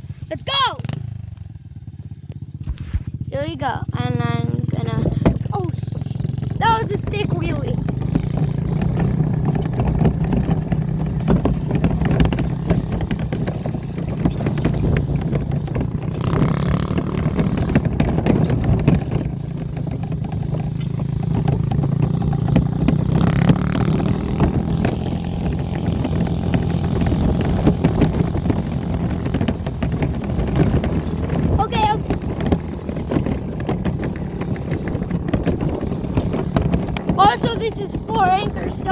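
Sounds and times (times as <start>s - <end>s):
dirt bike engine under load: 0.0s - 38.9s
rattling and clatter: 2.3s - 38.9s.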